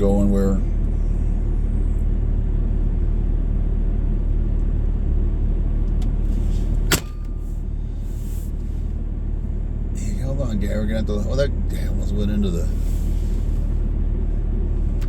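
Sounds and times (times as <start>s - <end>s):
vehicle rumble inside cabin: 0.0s - 15.0s.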